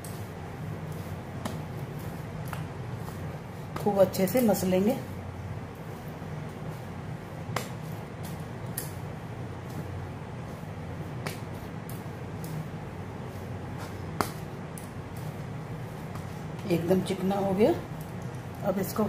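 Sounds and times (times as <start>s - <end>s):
dough kneaded on wooden board: 0.0s - 19.0s.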